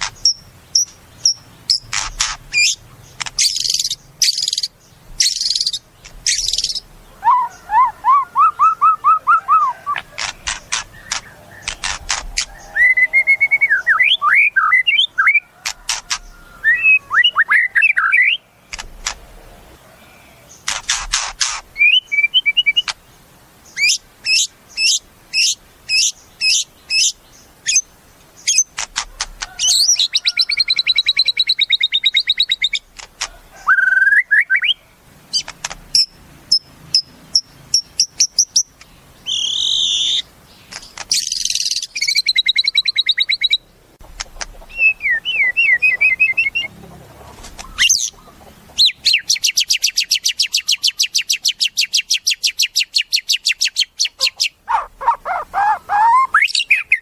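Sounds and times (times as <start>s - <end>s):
songbird singing varied song: 0.0s - 47.0s, 47.6s - 57.0s.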